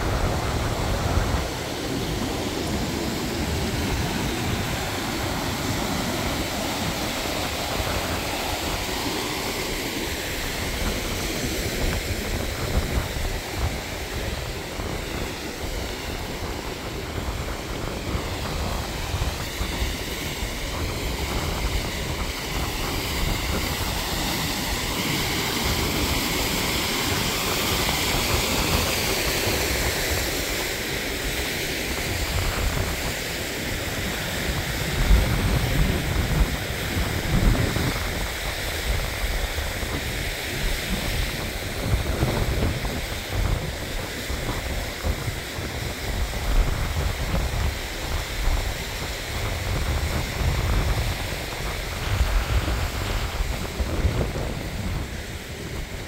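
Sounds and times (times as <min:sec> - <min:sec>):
stream rushing over rocks: 0:00.0 - 0:56.0
wind buffeting microphone: 0:00.0 - 0:56.0.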